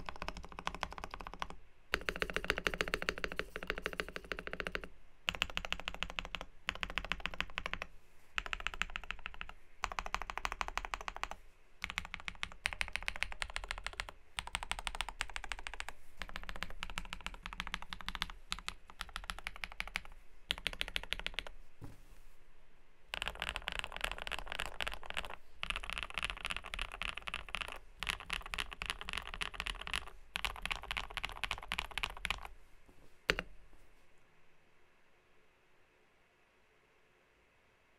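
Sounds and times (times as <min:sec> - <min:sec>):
mechanical keyboard typing: 0:00.0 - 0:21.5, 0:23.1 - 0:32.5, 0:33.3 - 0:33.5.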